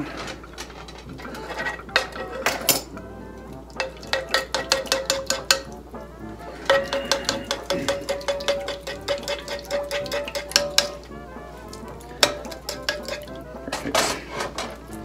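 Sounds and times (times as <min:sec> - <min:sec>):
metal spoon scraping frying pan: 0:00.0 - 0:05.8, 0:06.4 - 0:15.0.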